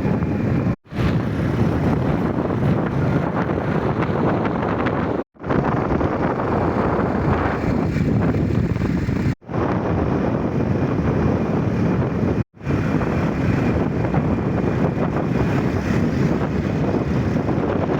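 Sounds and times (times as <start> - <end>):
wind rushing over microphone: 0.0 - 17.9.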